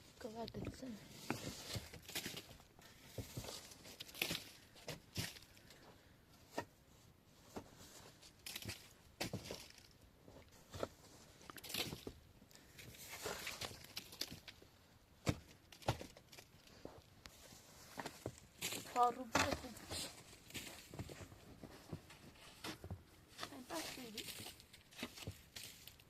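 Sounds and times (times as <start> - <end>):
rustling: 0.2 - 26.0.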